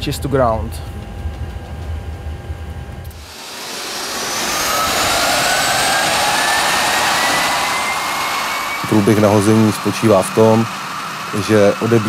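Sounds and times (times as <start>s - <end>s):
jet engine whine spinning up: 0.0s - 12.0s
low engine rumble: 0.0s - 12.0s.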